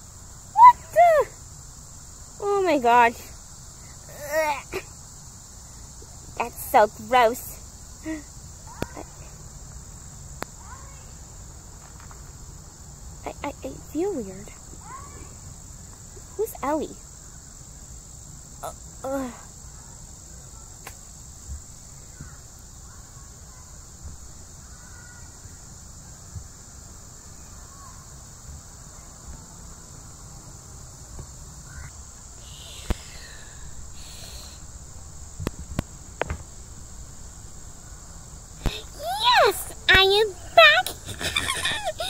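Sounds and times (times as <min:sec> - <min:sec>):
insect drone: 0:00.0 - 0:42.0.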